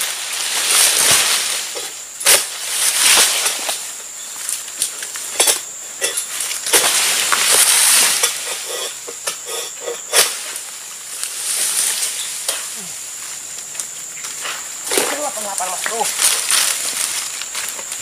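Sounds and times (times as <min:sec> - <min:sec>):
palm fronds rustling and scraping: 0:00.0 - 0:18.0.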